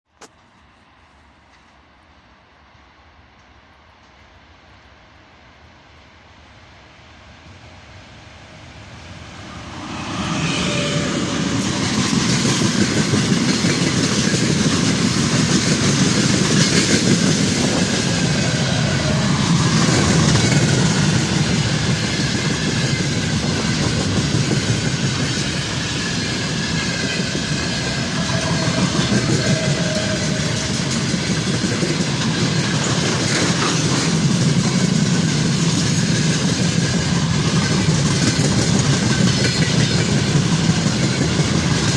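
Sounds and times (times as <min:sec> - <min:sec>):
freight train wheels rolling on rails: 0:00.3 - 0:41.9.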